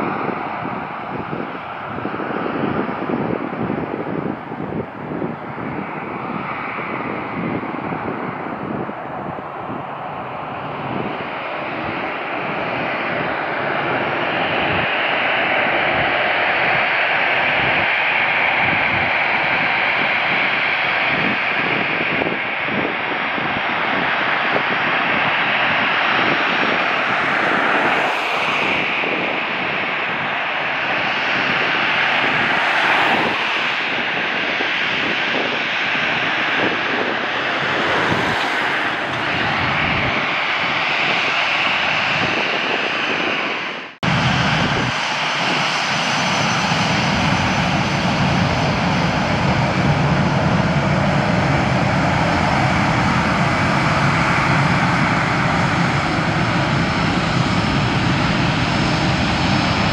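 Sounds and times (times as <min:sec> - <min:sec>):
jet airliner engines rushing: 0:00.0 - 0:59.9.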